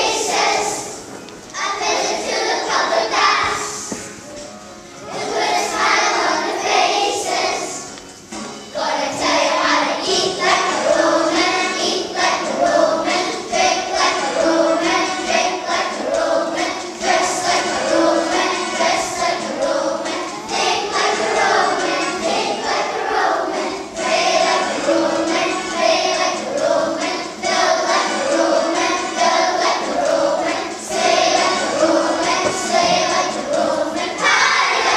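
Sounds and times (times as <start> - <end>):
children singing in unison: 0.0 - 4.0, 5.0 - 8.0, 8.7 - 34.9.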